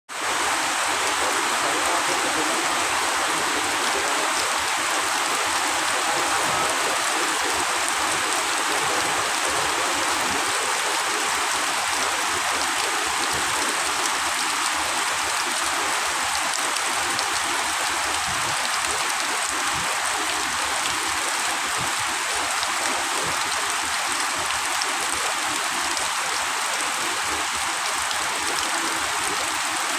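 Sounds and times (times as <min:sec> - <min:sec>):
steady rain falling: 0:00.1 - 0:29.9.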